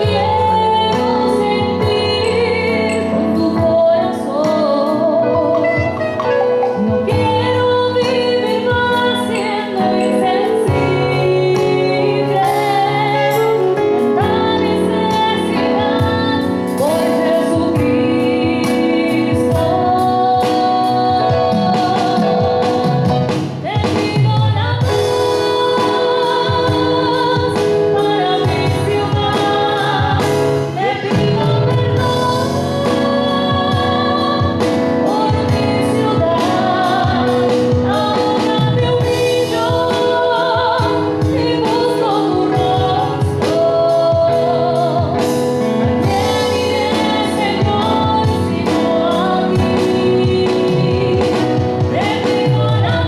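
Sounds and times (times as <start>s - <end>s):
electronic keyboard chords: 0.0s - 53.0s
woman singing a hymn: 0.0s - 53.0s.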